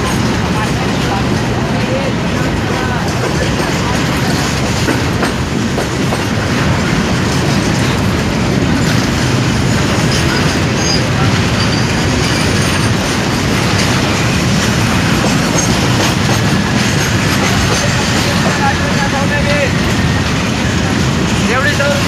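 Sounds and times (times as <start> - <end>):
train rumbling: 0.0 - 22.0
wheels clacking over track: 2.4 - 22.0.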